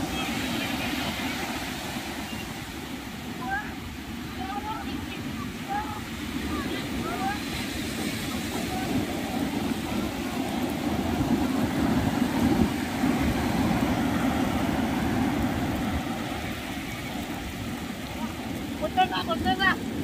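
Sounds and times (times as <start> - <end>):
surf washing over beach: 0.0 - 20.0
wind buffeting microphone: 0.0 - 20.0.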